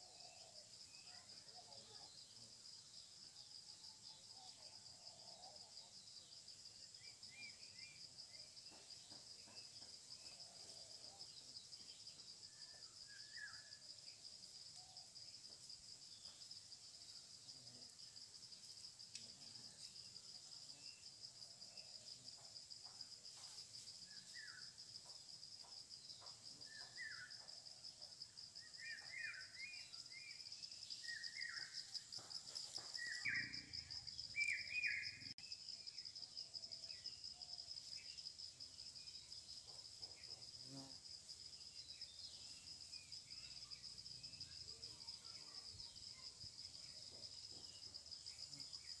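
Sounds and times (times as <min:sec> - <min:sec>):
high-pitched insect trill: 0:00.0 - 0:49.0.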